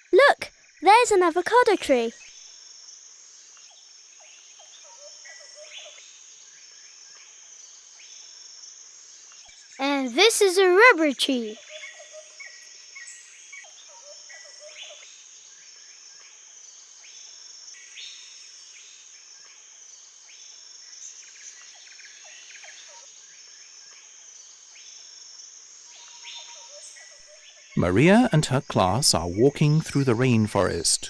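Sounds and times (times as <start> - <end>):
high insect drone: 0.6 - 29.9.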